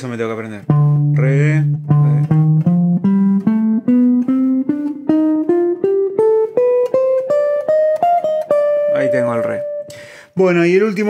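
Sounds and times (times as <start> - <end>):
electric guitar playing a scale: 0.6 - 10.2.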